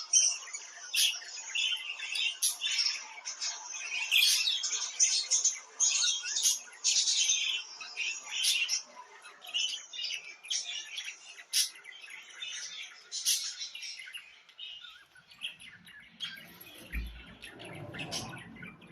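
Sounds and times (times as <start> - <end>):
budgerigars chirping: 0.0 - 18.9.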